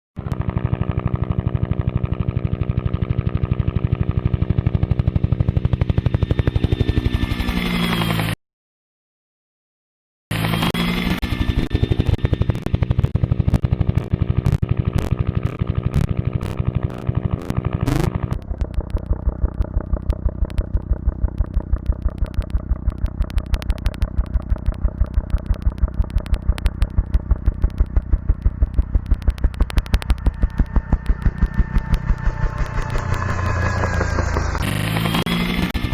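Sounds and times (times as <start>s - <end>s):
helicopter rotor chop: 0.2s - 8.4s, 10.3s - 35.9s.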